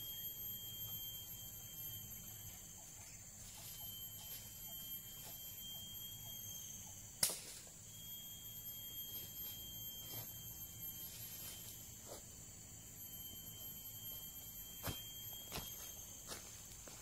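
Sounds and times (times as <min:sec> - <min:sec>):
forest insects droning: 0:00.0 - 0:17.0.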